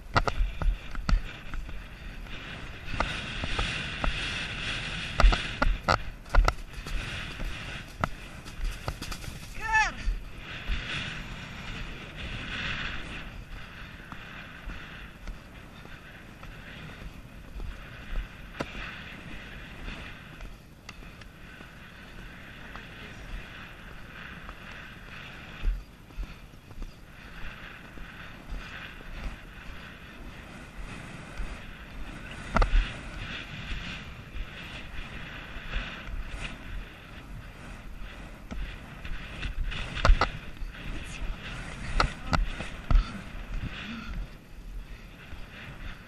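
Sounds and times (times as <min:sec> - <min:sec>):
hooves thudding in sand: 0:00.0 - 0:46.0
horse hoofbeats galloping on grass: 0:00.0 - 0:46.0
wind over microphone: 0:00.0 - 0:46.0.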